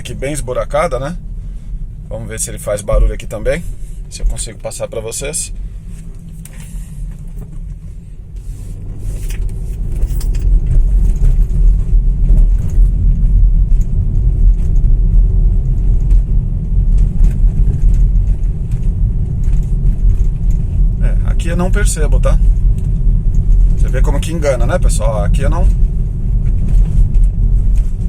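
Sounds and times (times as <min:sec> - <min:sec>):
car road rumble: 0:00.0 - 0:28.0.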